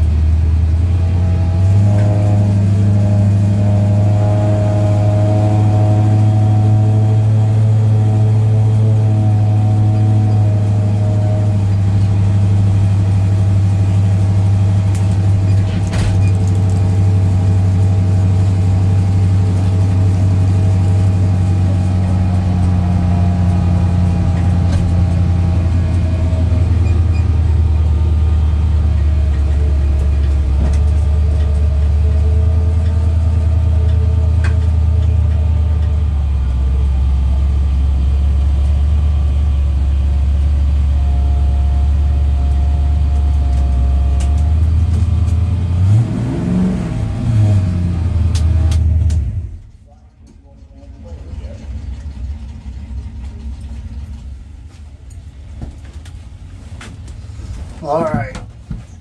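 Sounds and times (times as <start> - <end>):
car engine deep rumble: 0.0 - 59.0.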